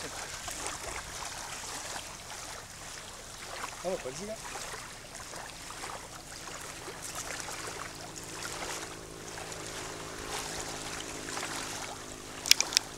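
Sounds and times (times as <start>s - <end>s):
small water splashes: 0.0s - 12.9s
water lapping and trickling: 0.0s - 12.9s.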